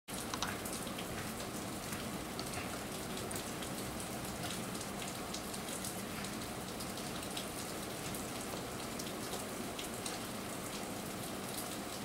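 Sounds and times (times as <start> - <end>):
rain pattering: 0.1 - 12.0.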